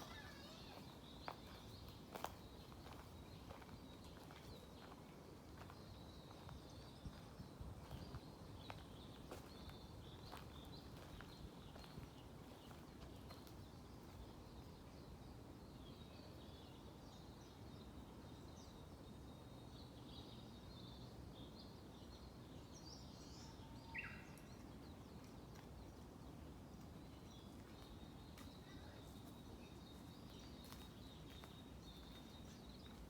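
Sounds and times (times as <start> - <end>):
small birds chirping and singing: 0.0 - 33.0.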